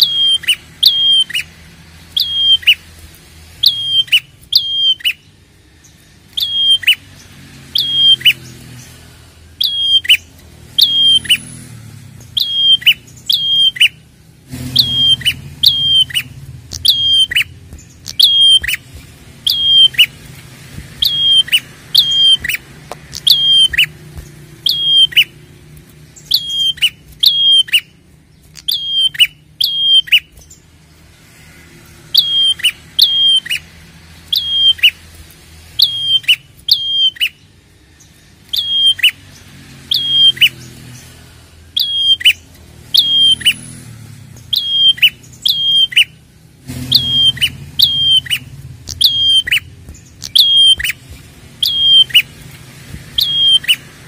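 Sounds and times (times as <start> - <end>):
bird calling sharp high notes: 0.0 - 3.0, 3.6 - 5.3, 6.4 - 7.1, 7.7 - 8.6, 9.5 - 11.6, 12.2 - 30.6, 32.0 - 35.1, 35.8 - 37.5, 38.5 - 40.7, 41.7 - 43.8, 44.4 - 54.0.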